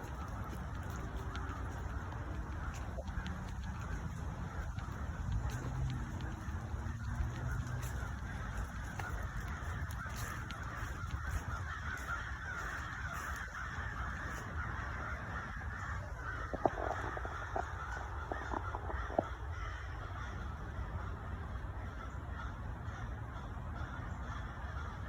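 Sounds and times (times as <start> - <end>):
low steady rumble: 0.0 - 24.6
flock of birds chattering: 0.0 - 25.0
sharp bird calls: 0.0 - 25.0.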